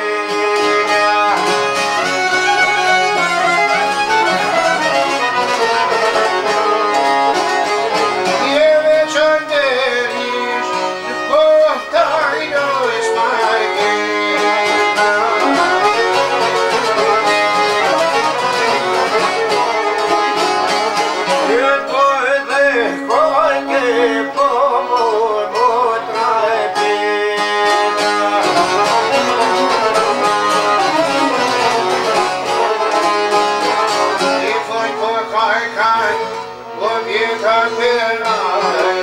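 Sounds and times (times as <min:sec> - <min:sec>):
folk music plucked strings: 0:00.0 - 0:39.0
wavering melody: 0:00.4 - 0:37.6.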